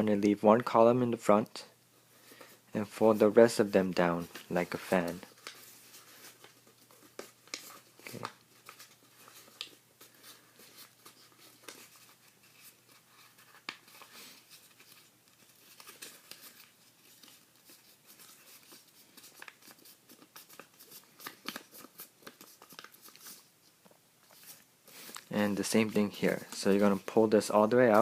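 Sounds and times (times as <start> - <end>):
paper crinkling while folded: 2.4 - 28.0.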